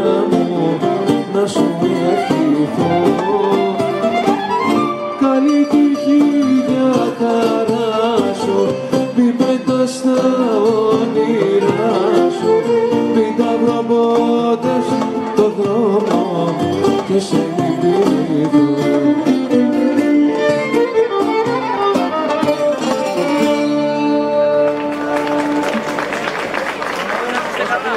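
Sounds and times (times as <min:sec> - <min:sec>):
crowd noise: 0:00.0 - 0:27.9
folk band playing dance tune: 0:00.0 - 0:27.9.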